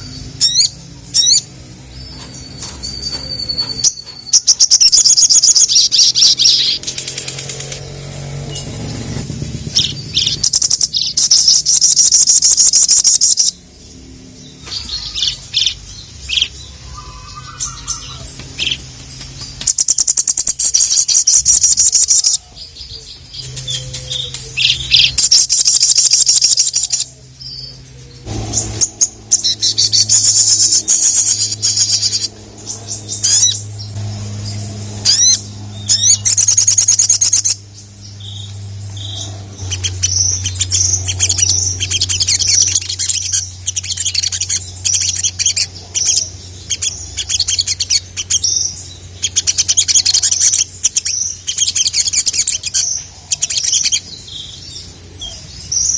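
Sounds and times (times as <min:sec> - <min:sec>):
bird singing rattling trills: 0:00.0 - 0:55.9.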